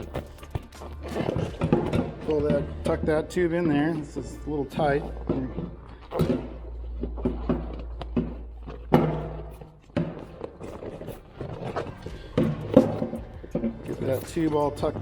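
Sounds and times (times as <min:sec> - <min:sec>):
rubber inner tube rubbing and squeaking: 0:00.0 - 0:15.0.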